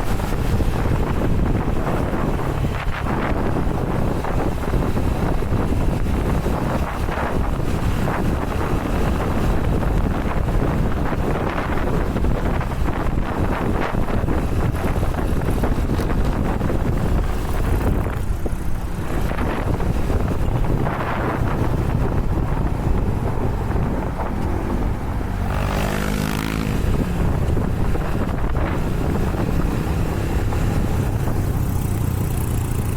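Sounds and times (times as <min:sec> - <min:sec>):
motorcycle engine running: 0:00.0 - 0:32.9
wind rushing over microphone: 0:00.0 - 0:32.9.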